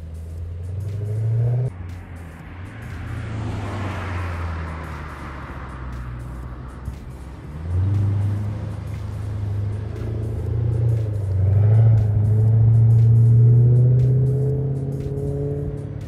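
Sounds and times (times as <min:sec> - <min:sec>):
car exhaust drone driving off: 0:00.0 - 0:16.0.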